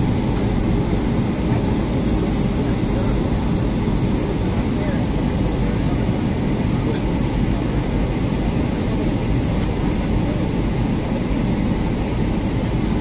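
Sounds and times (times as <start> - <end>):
jet engines roaring in cabin: 0.0 - 13.0.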